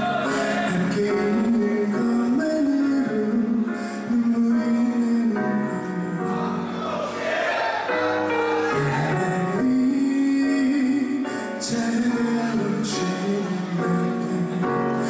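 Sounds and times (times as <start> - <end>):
man singing a slow ballad: 0.0 - 6.7, 8.8 - 15.0.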